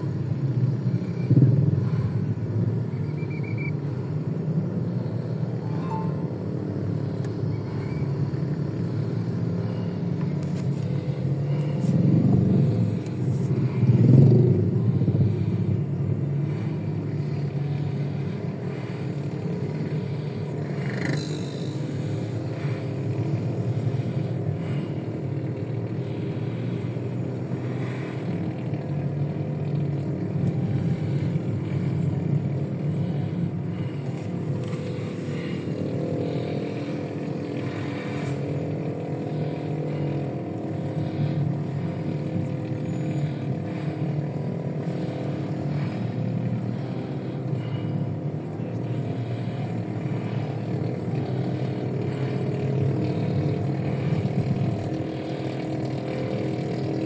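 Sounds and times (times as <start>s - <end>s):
engine and road rumble: 0.0s - 57.0s
vehicles passing: 0.0s - 57.0s.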